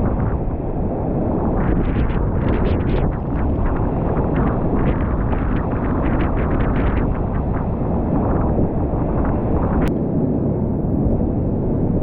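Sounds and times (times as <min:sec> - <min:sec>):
storm waves breaking: 0:00.0 - 0:09.9
wind buffeting microphone: 0:00.0 - 0:12.0.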